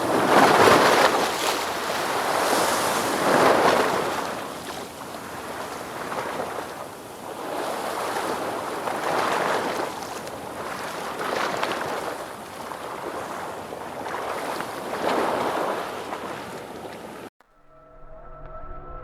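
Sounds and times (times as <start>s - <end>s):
ocean waves breaking on shore: 0.0s - 17.3s.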